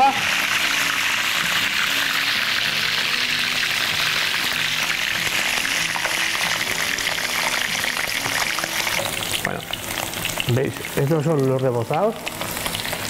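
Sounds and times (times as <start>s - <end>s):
cheese deep-frying in hot oil: 0.0s - 13.0s.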